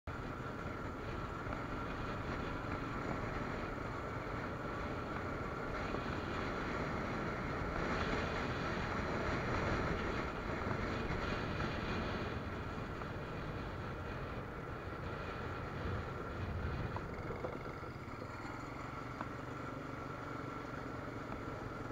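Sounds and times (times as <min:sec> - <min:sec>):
quad bike engine running: 0:00.1 - 0:21.9.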